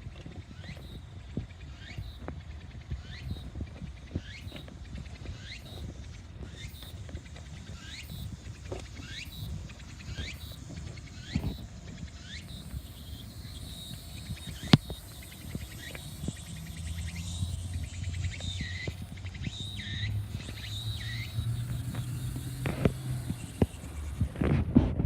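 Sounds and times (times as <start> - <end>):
low engine hum: 0.0 - 25.0
short chirping calls: 0.4 - 24.5.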